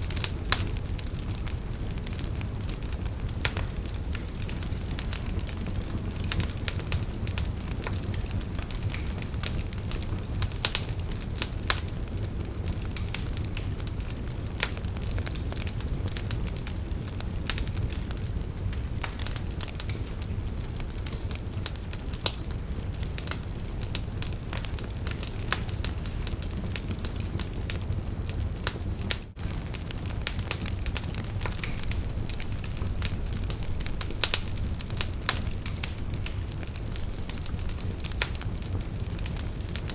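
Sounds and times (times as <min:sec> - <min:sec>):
bonfire burning rush: 0:00.0 - 0:39.9
wood crackling and popping: 0:00.0 - 0:39.9.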